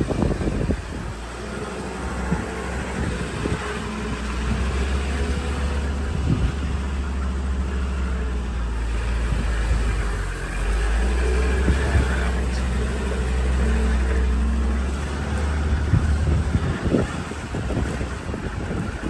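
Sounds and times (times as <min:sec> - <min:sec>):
vehicle engine running at low speed: 0:00.0 - 0:19.0.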